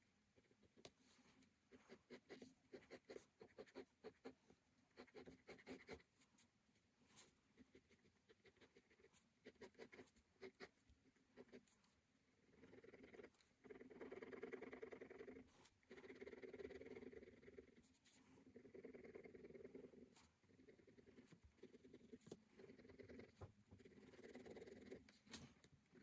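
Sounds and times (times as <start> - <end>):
pen scratching on paper: 0.4 - 6.5, 7.1 - 12.0, 12.7 - 26.0.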